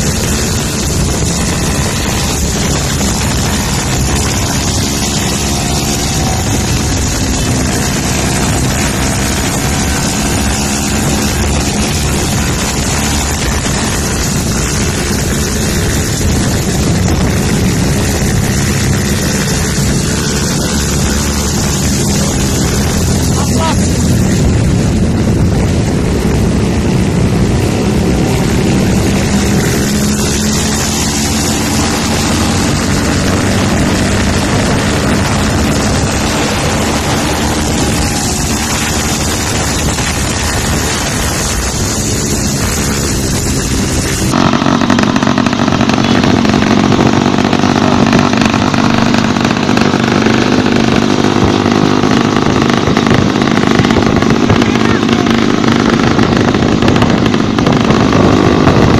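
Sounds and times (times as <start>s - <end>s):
engine running close by: 0.0s - 58.9s
small scooter engine running: 0.0s - 58.9s
wind on microphone: 0.0s - 58.9s.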